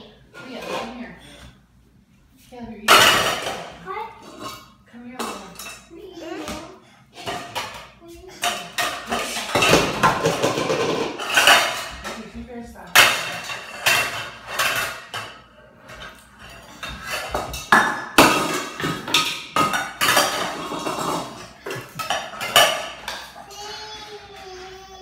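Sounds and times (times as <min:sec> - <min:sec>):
saucepans clanging together: 0:02.9 - 0:24.4.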